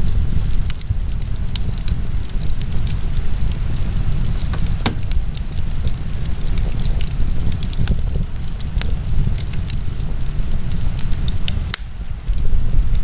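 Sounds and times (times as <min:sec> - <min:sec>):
fire low rumble: 0:00.0 - 0:13.0
fire crackling pops and snaps: 0:00.3 - 0:13.0.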